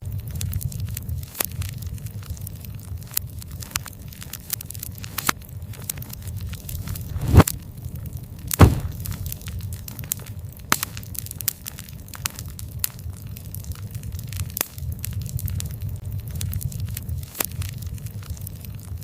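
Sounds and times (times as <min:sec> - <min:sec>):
fire crackling and popping: 0:00.0 - 0:19.0
wood fire rumbling: 0:00.0 - 0:19.0.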